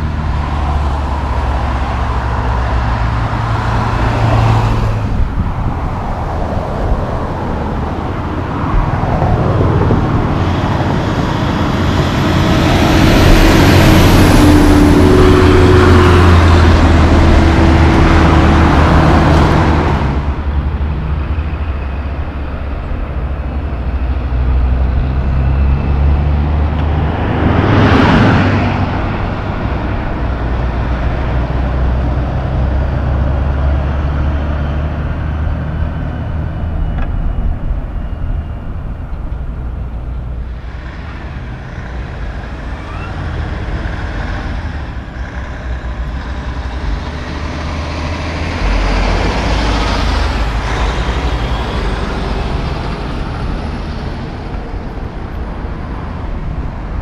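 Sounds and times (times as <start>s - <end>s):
truck diesel engine humming: 0.0s - 57.0s
vehicle passing by: 0.0s - 57.0s.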